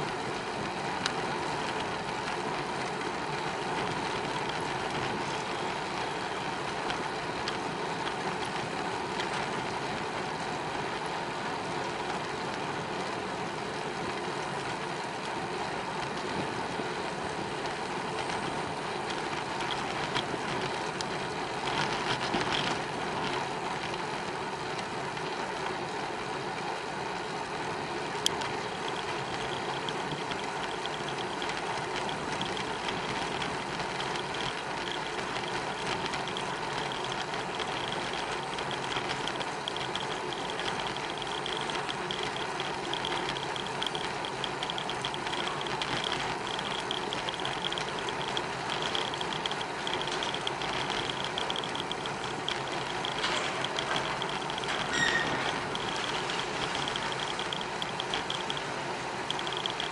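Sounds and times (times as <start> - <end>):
bicycle rattling: 0.0 - 59.9
bicycle tyres on pavement: 0.0 - 59.9.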